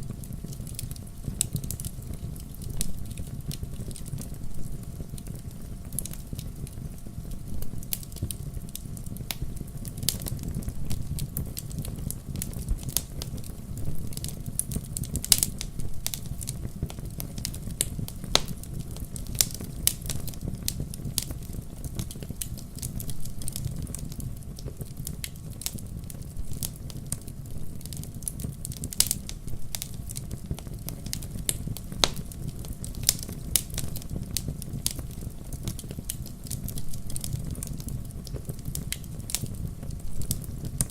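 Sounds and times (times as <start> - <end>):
flames rumbling: 0.0 - 40.9
logs crackling and popping: 0.0 - 40.9.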